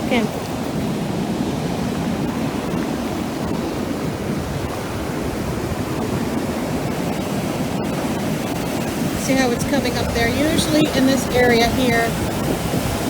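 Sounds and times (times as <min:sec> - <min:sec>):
ocean waves breaking on shore: 0:00.0 - 0:13.0.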